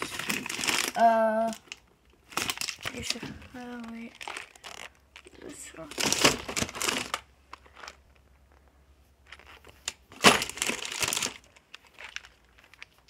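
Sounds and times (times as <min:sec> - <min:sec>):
rummaging through nails: 0:00.0 - 0:13.0.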